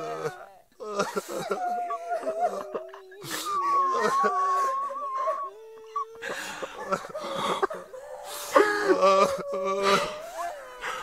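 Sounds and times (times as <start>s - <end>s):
gasping in-breaths: 0.0s - 11.0s
group of people sobbing: 0.0s - 11.0s
long high wail: 1.3s - 11.0s.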